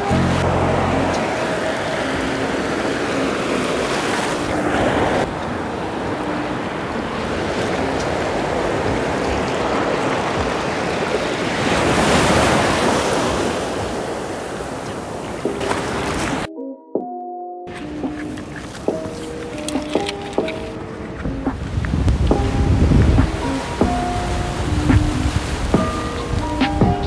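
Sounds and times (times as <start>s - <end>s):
surf washing over sand: 0.0s - 16.5s, 17.7s - 27.0s
wind buffeting microphone: 0.0s - 16.5s, 17.8s - 27.0s.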